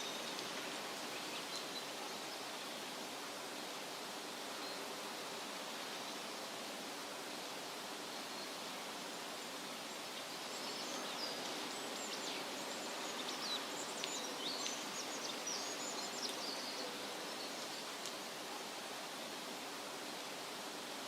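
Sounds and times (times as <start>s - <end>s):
wind rustling leafy trees: 0.0s - 21.0s.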